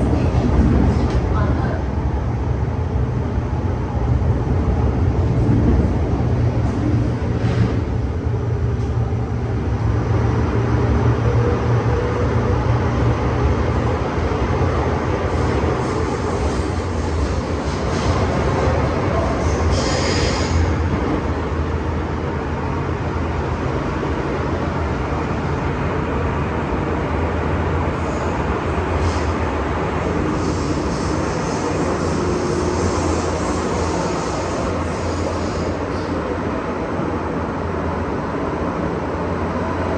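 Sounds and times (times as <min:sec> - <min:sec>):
train rumble with low hum: 0:00.0 - 0:39.9.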